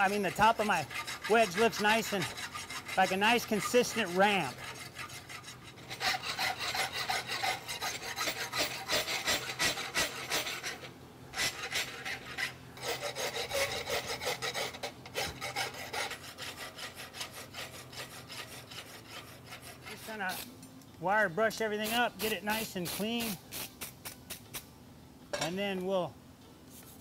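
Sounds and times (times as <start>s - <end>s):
hand file rasping on steel: 0.0s - 20.5s, 21.8s - 23.9s.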